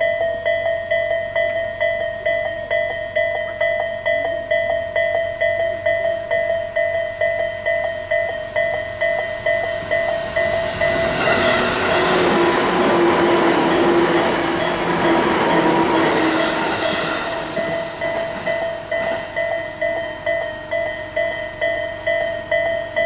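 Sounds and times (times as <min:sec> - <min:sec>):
electric train passing: 0:00.0 - 0:23.0
level-crossing bell dinging: 0:00.0 - 0:23.0.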